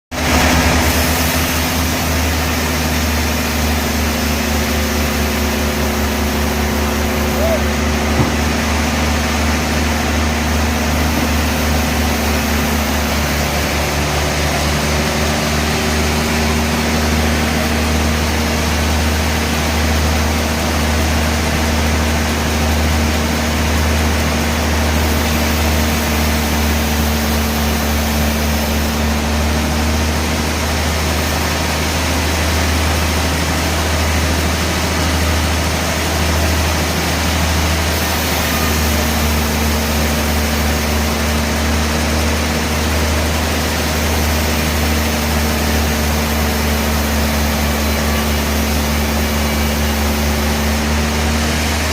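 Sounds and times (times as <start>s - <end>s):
band saw machinery humming: 0.2s - 51.9s.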